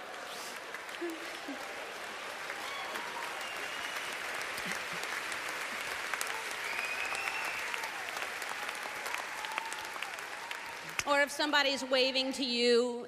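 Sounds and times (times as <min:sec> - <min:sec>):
audience applauding: 0:00.0 - 0:11.1
voices rising over clapping: 0:00.0 - 0:11.1.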